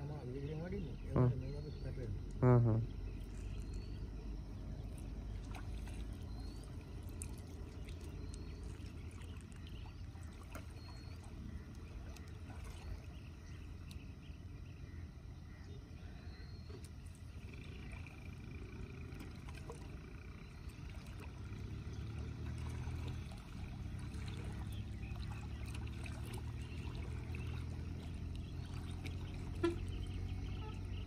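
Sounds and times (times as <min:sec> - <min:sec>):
water trickling and splashing: 0:00.0 - 0:31.0.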